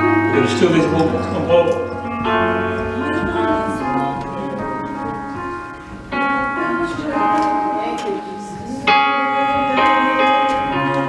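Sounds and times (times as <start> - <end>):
keyboard playing organ-like chords: 0.0 - 11.0.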